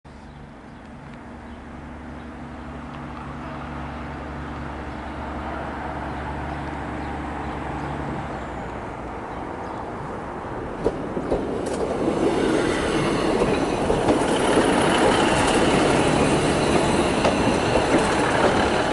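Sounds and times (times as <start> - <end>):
diesel train engine droning: 0.1 - 18.9.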